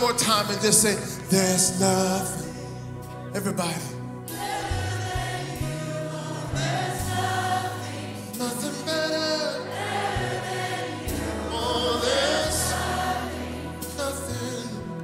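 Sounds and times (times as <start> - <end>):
congregation singing: 0.0 - 15.0
man leading worship singing: 0.0 - 15.0
worship band playing: 0.0 - 15.0.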